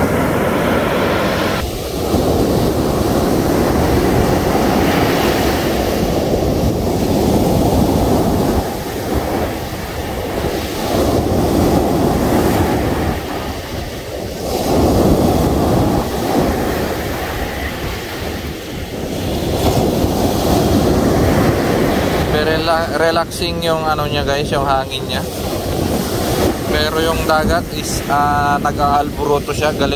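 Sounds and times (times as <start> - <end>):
waves breaking on shore: 0.0 - 29.9
wind buffeting microphone: 0.0 - 29.9.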